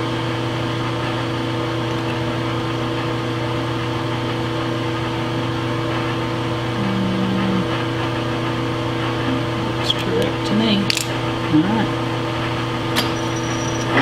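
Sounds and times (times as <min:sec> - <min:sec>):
metal lathe motor humming: 0:00.0 - 0:14.0.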